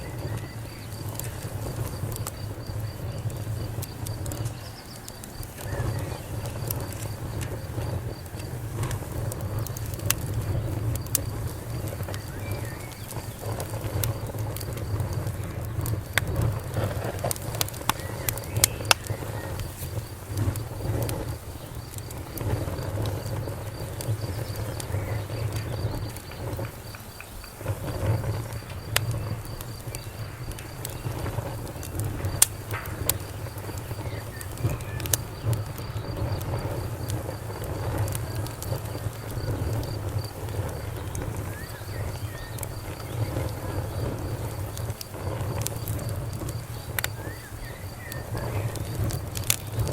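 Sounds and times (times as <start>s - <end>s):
campfire crackling and popping: 0.0s - 49.9s
crickets chirping: 0.0s - 49.9s.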